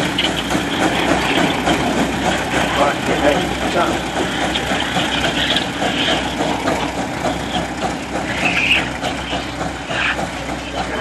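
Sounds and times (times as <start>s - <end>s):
steam engine exhaust chuffing: 0.0s - 11.0s.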